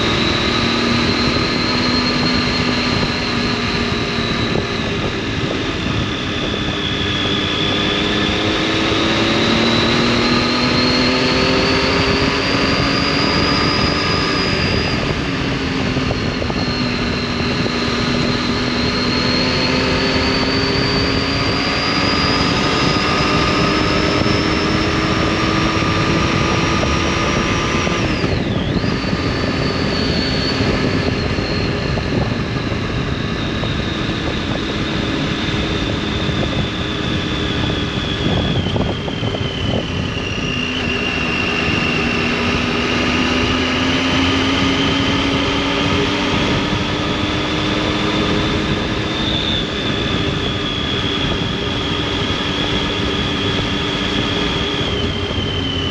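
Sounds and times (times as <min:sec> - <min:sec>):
motorcycle engine and exhaust: 0:00.0 - 0:55.9.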